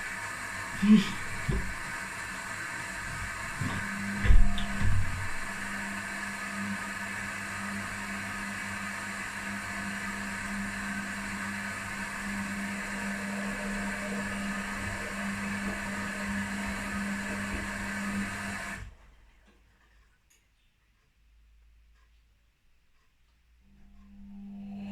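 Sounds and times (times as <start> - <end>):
washing machines humming: 0.0 - 20.0, 23.4 - 24.9.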